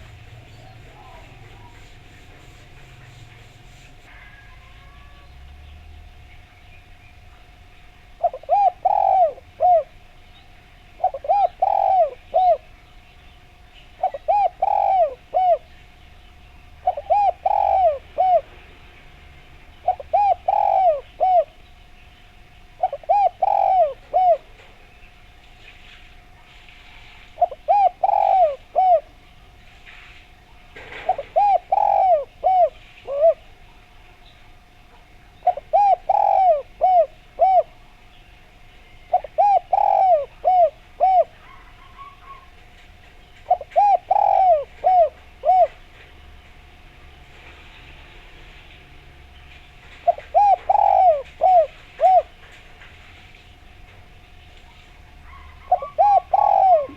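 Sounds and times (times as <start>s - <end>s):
dove cooing: 0.0s - 5.5s, 8.1s - 10.2s, 10.8s - 12.8s, 13.5s - 16.1s, 16.7s - 19.1s, 19.7s - 21.8s, 22.4s - 24.9s, 27.0s - 29.6s, 30.2s - 33.7s, 34.5s - 48.0s, 49.3s - 56.9s
faint steady hum: 0.0s - 56.9s.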